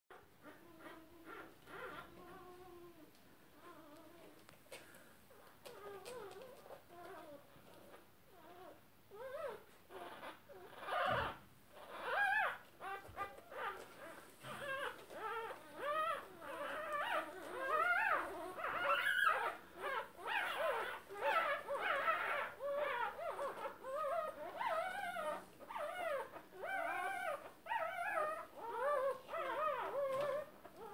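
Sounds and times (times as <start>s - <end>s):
puppies squeaking and whimpering: 0.1s - 3.0s, 5.3s - 30.9s.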